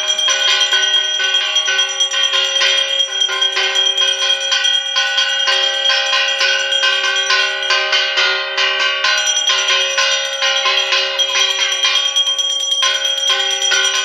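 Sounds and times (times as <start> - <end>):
hand bell ringing rapidly: 0.0 - 8.3, 9.0 - 14.0.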